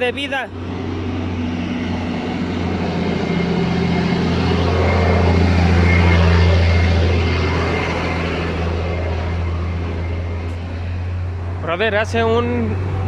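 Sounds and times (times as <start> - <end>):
machine droning: 0.0 - 13.0.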